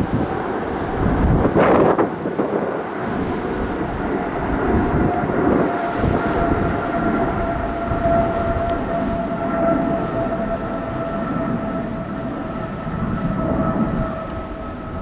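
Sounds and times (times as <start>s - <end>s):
jet engines rumbling: 0.0s - 15.0s
two-tone whine: 0.0s - 15.0s.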